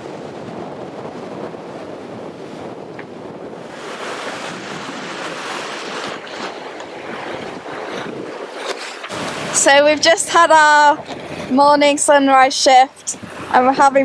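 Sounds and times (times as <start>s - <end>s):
water rushing along a hull: 0.0s - 14.0s
wind buffeting microphone: 0.0s - 14.0s.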